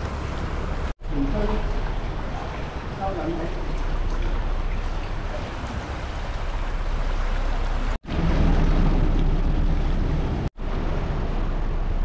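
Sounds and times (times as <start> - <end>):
sea noise: 0.0 - 12.0
wind: 0.0 - 12.0.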